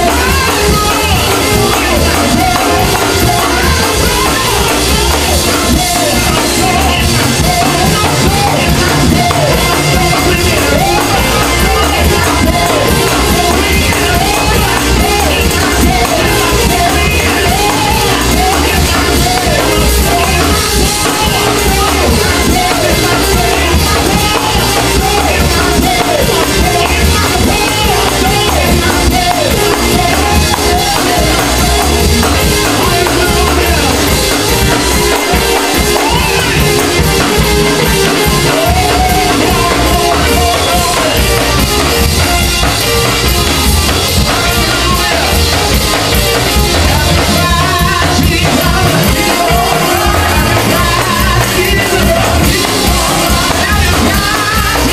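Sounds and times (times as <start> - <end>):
drums: 0.0 - 54.9
keyboard: 0.0 - 54.9
loud singing: 0.0 - 54.9.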